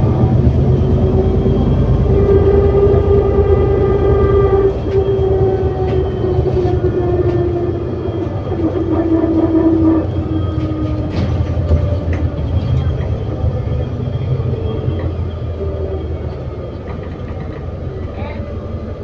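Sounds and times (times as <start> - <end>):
bus interior low rumble: 0.0 - 19.0
driveline whine: 0.0 - 19.0.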